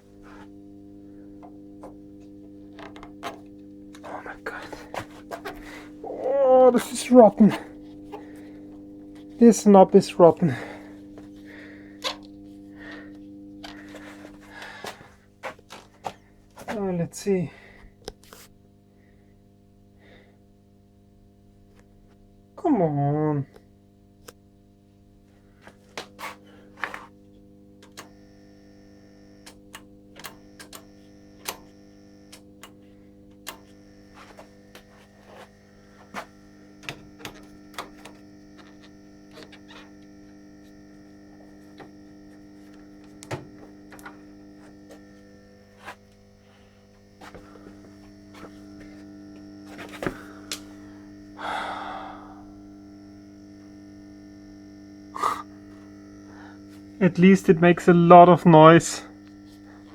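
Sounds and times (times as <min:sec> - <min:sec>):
mains hum and buzz: 0:00.0 - 0:59.9.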